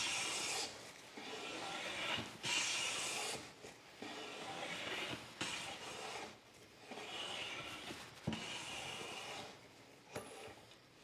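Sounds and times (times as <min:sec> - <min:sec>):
bench plane strokes on wood: 0:00.0 - 0:09.6.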